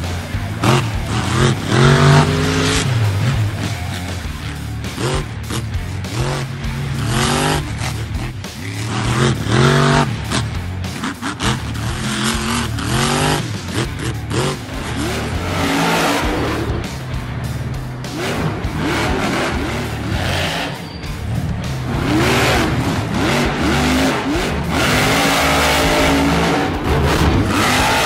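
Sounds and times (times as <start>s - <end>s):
background music with bass line: 0.0s - 28.0s.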